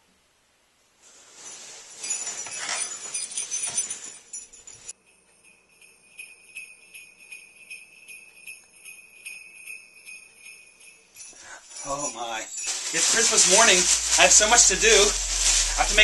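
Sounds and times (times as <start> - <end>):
sleigh bells jingling: 1.2 - 16.0.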